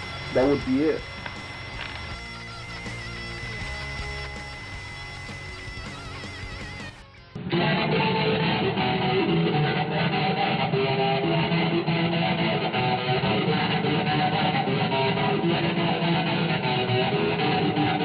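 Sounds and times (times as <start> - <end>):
electric guitar music: 0.0 - 18.0.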